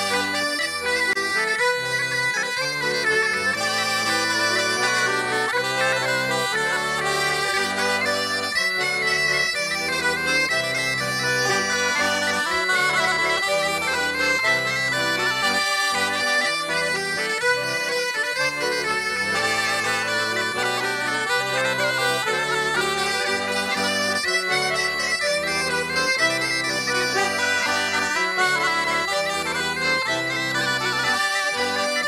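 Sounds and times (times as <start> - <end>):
bagpipes playing dance tune: 0.0 - 32.0.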